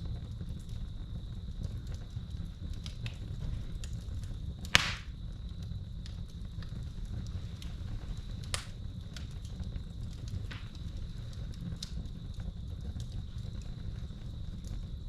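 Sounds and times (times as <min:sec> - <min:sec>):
crickets trilling: 0:00.0 - 0:15.0
fire popping: 0:00.0 - 0:15.0
low steady rumble: 0:00.0 - 0:15.0
wood fire crackling: 0:00.0 - 0:15.0.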